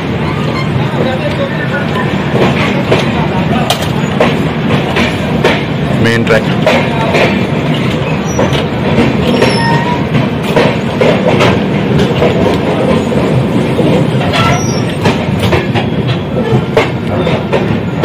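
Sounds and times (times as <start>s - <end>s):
train wheels rumbling on rail: 0.0s - 18.0s
wheels clacking over rail joints: 0.1s - 18.0s.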